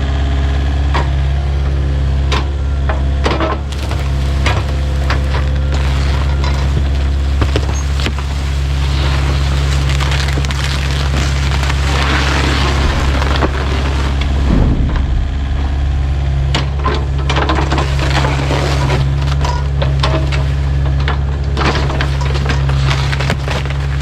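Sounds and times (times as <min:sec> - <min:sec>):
diesel engine running: 0:00.9 - 0:23.8
debris knocking and cracking: 0:02.3 - 0:24.0.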